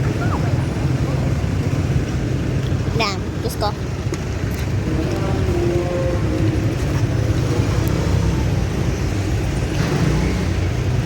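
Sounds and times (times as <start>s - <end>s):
low rumble of street noise: 0.0s - 11.0s.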